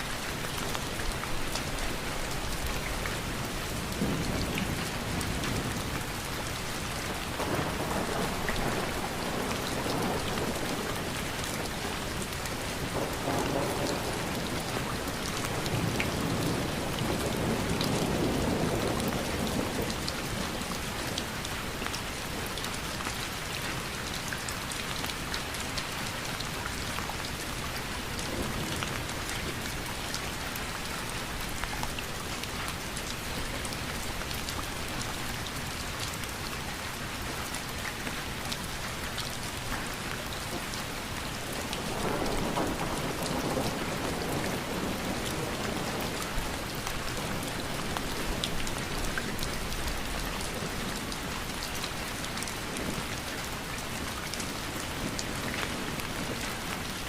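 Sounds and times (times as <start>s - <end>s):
rain drops pattering: 0.0s - 57.0s.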